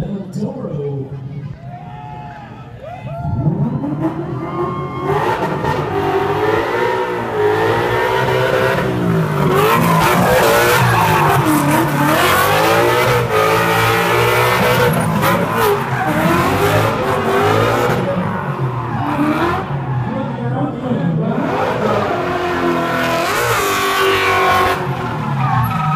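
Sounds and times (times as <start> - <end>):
car engine revving: 3.2 - 25.9.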